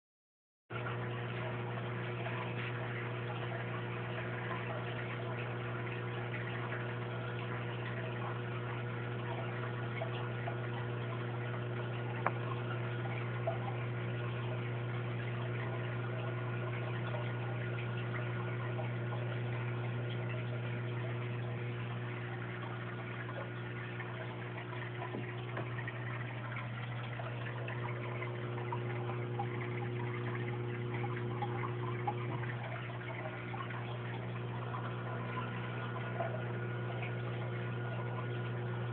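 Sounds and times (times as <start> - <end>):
aquarium pump humming: 0.7 - 38.9.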